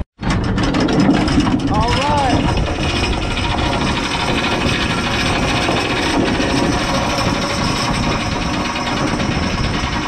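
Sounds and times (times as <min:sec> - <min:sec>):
boat engine running: 0:00.2 - 0:10.0
wind buffeting microphone: 0:00.2 - 0:10.0.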